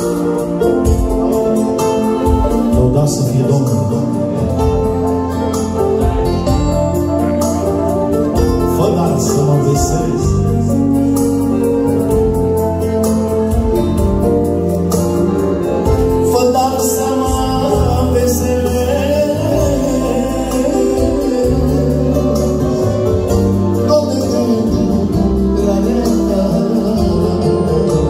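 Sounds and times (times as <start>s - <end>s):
accordion chords: 0.0s - 28.0s
electronic keyboard bass line: 0.0s - 28.0s.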